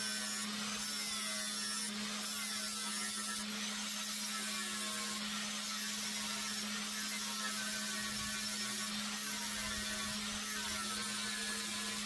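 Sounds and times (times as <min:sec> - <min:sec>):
angle grinder grinding metal: 0:00.0 - 0:12.0.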